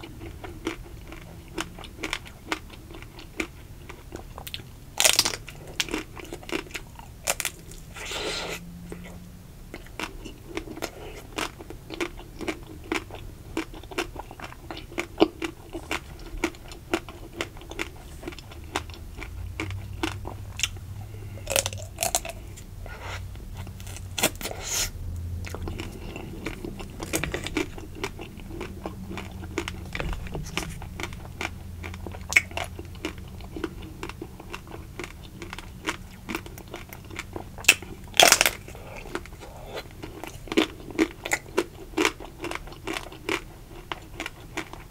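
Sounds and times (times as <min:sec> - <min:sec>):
chewing: 0:00.0 - 0:44.9.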